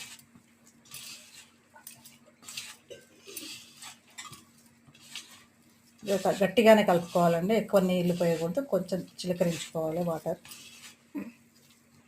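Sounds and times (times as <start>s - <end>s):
mixture squishing in a bowl: 0.0s - 12.0s.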